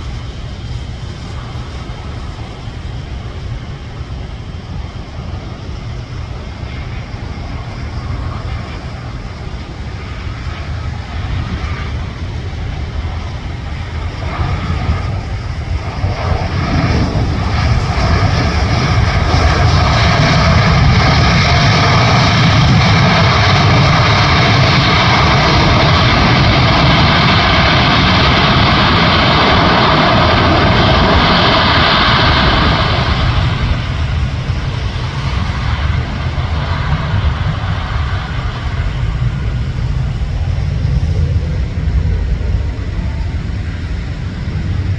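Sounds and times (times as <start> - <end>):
jet engines rushing and whining: 0.0 - 44.9.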